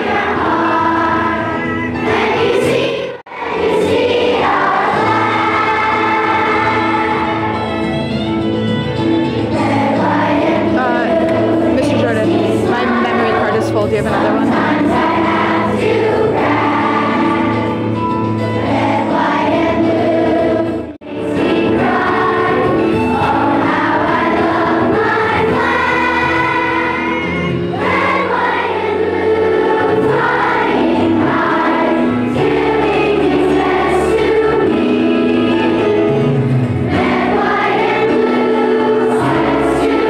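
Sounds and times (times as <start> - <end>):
children singing in unison: 0.0 - 7.8, 9.5 - 13.5, 14.2 - 18.0, 18.6 - 40.0.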